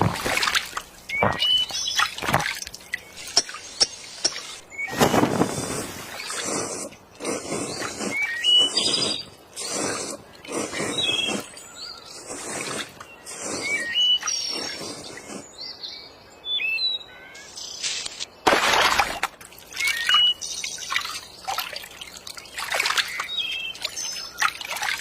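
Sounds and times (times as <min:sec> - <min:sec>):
bursts of water noise: 0:00.0 - 0:15.4, 0:18.4 - 0:25.0
birds chirping and whistling: 0:01.0 - 0:18.0, 0:19.7 - 0:21.4, 0:22.8 - 0:25.0.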